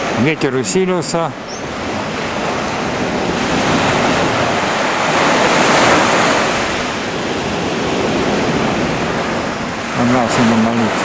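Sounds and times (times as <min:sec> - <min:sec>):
waves breaking on shore: 0:00.0 - 0:11.0
wind buffeting microphone: 0:00.0 - 0:11.0.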